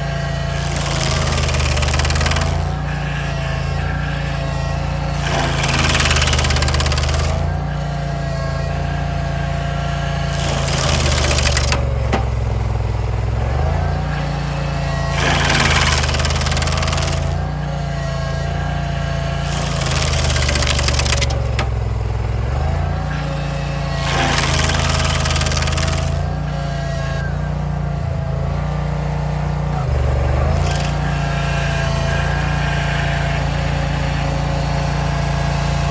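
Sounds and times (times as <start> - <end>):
grinder teeth grinding wood: 0.0 - 35.9
stump grinder engine running: 0.0 - 35.9.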